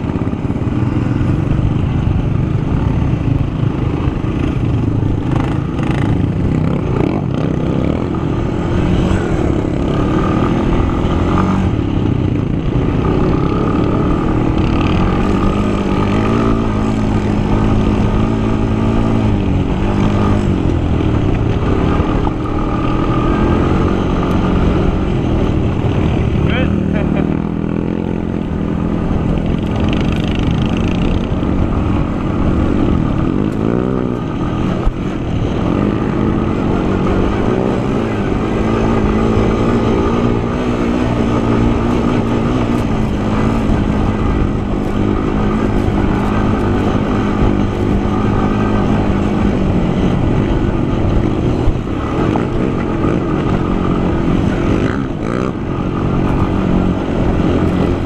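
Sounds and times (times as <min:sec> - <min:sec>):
quad engine running: 0:00.0 - 0:58.0
rushing wind noise: 0:00.0 - 0:58.0.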